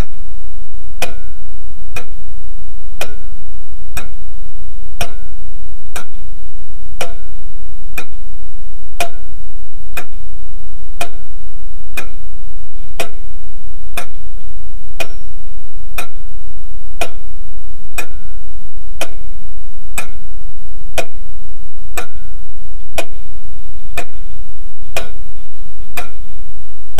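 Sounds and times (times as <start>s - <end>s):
clock ticking: 0.0s - 0.3s, 0.9s - 6.4s, 7.0s - 26.5s
steady low hum: 0.0s - 26.9s.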